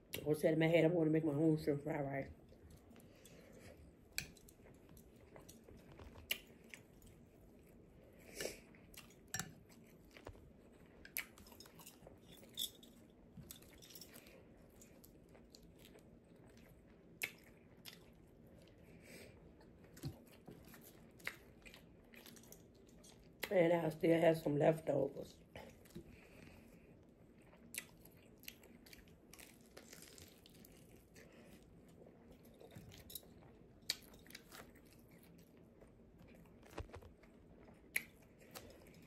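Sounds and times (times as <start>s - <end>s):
person chewing: 2.5s - 23.5s, 25.6s - 39.0s.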